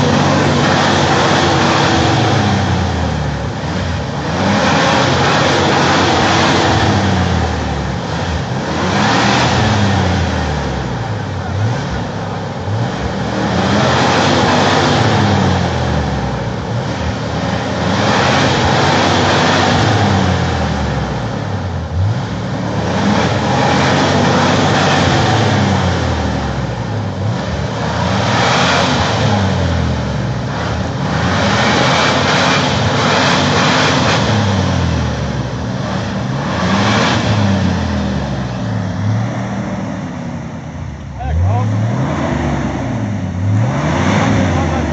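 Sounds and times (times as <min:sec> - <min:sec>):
off-road engine revving: 0:00.0 - 0:44.9.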